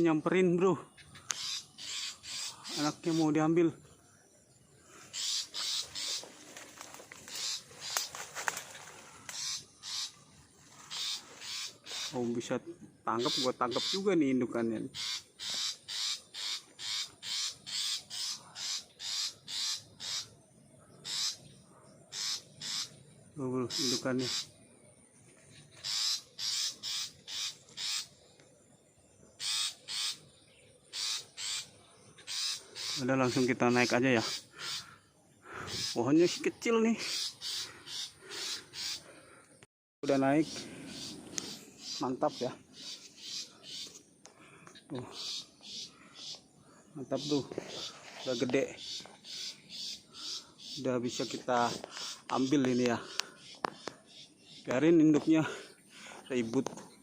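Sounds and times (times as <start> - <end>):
bird harsh scolding calls: 0.8 - 4.1, 4.8 - 24.7, 25.5 - 28.3, 29.3 - 39.4, 40.0 - 56.6.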